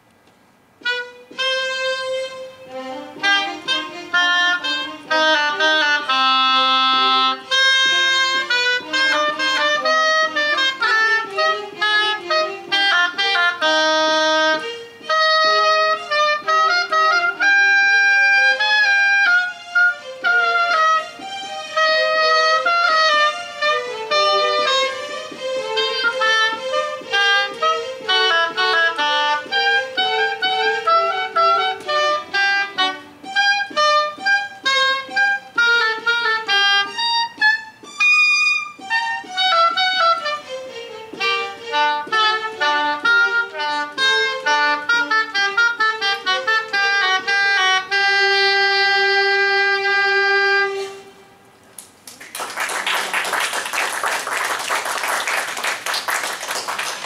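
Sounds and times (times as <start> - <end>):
oboe and keyboard baroque music: 0.8 - 51.4.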